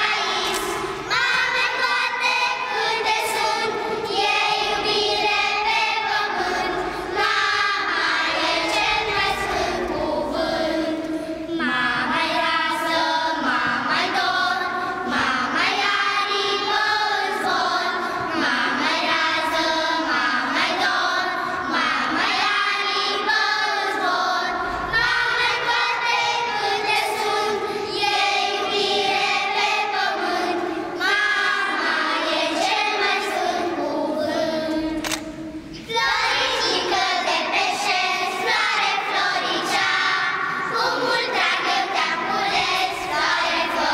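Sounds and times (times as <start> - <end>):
children's choir singing: 0.0 - 43.9.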